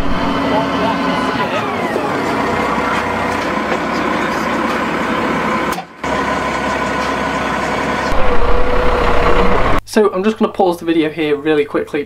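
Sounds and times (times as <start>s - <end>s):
tractor diesel engine idling: 0.0s - 9.8s.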